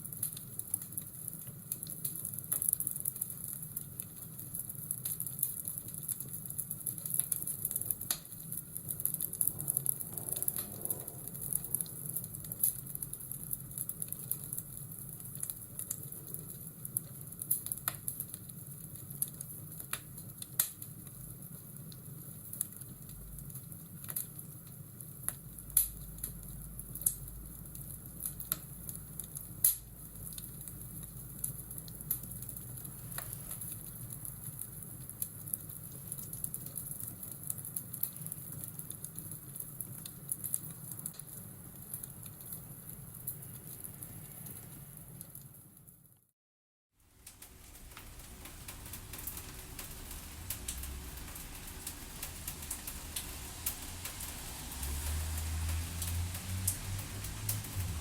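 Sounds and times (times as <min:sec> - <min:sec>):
low fire rumble: 0:00.0 - 0:45.4, 0:47.0 - 0:58.0
wood fire crackling and popping: 0:00.0 - 0:45.7, 0:47.1 - 0:58.0.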